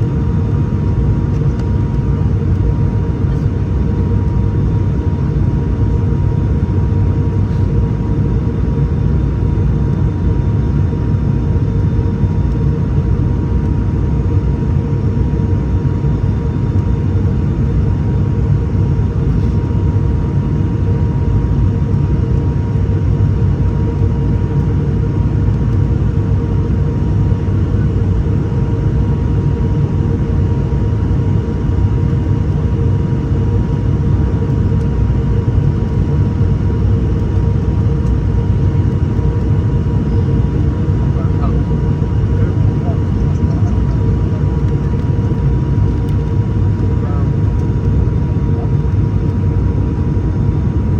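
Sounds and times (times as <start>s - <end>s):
turboprop engines droning: 0.0s - 50.9s.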